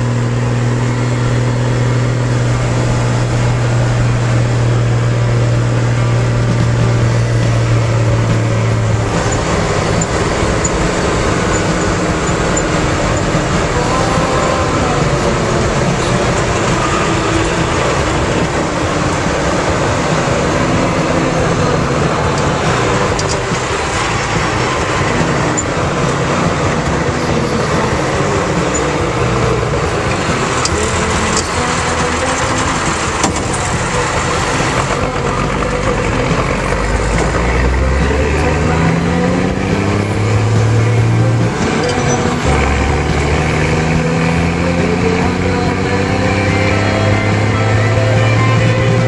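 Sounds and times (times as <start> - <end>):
truck engine running: 0.0 - 49.0.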